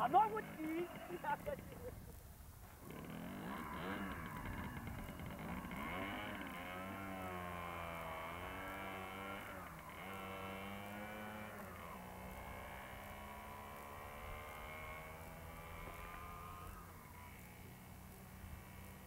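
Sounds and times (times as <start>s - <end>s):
motorcycle engine pulling away: 0.0s - 19.0s.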